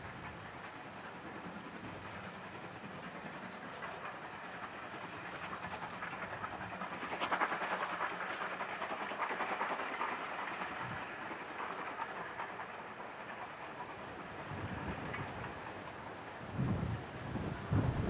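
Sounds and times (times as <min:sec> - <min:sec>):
train wheels clattering over rails: 0:00.0 - 0:18.0.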